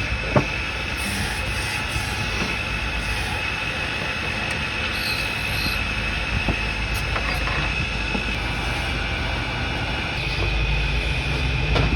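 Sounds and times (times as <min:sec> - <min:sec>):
low mechanical rumble: 0:00.0 - 0:11.9
wood lathe whine: 0:00.0 - 0:11.9.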